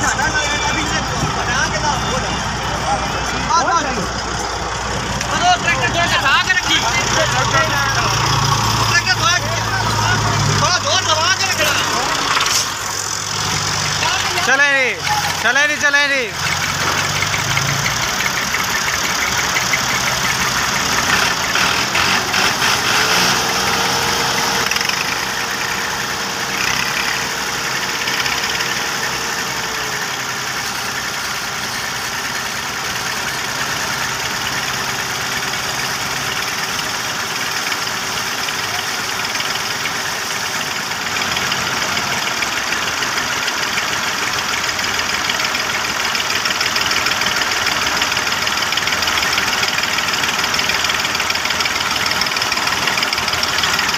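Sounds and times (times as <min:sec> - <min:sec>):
tractor engine straining under load: 0:00.0 - 0:53.9.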